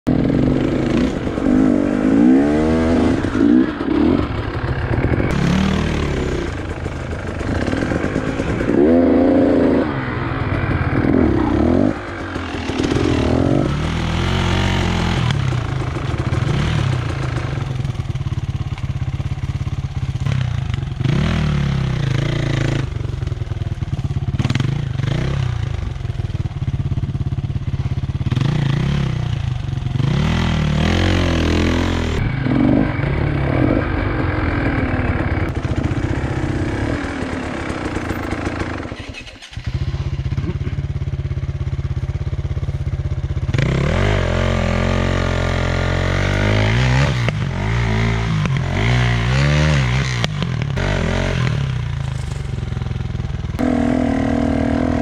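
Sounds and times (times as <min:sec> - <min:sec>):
dirt bike engines revving: 0:00.1 - 0:23.2, 0:27.8 - 0:40.9, 0:43.4 - 0:55.0.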